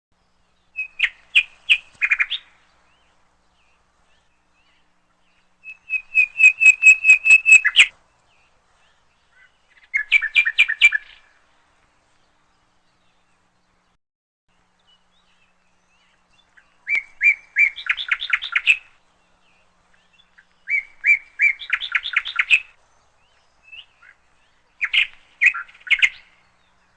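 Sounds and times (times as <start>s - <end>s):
songbird chirping: 0.1s - 26.9s.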